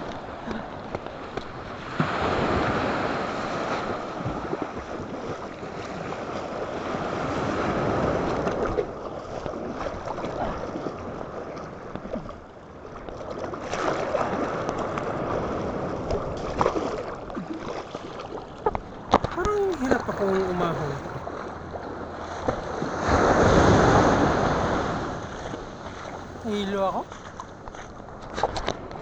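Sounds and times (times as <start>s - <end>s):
sea waves breaking on beach: 0.0s - 12.2s, 13.3s - 18.5s, 19.2s - 27.4s.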